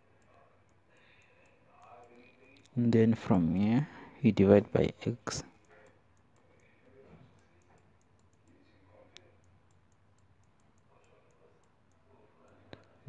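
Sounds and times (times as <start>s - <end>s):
stylus clicking and writing on tablet: 0.0s - 13.0s.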